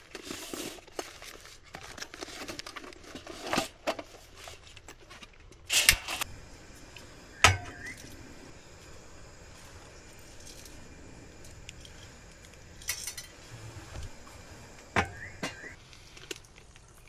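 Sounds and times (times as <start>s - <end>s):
gear crinkling and rustling: 0.0s - 6.2s, 7.9s - 17.0s.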